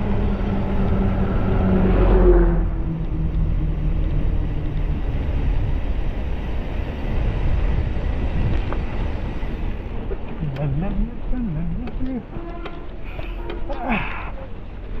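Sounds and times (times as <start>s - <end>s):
bike ride noise: 0.0s - 15.0s
rushing wind: 0.0s - 15.0s.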